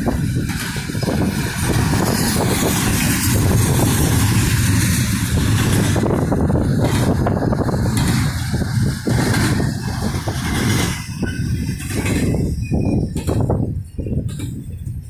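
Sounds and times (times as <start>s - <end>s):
car travelling at highway speed: 0.0s - 14.6s
wind rushing: 0.0s - 15.0s.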